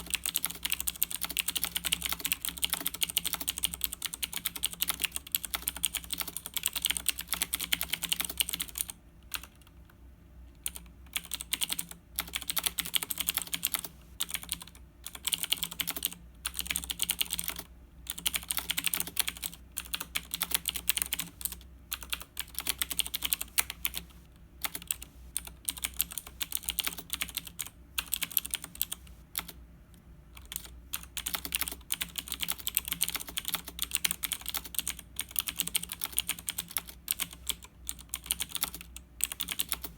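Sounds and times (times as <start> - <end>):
mechanical keyboard typing: 0.0 - 10.0, 10.6 - 29.6, 30.4 - 39.9.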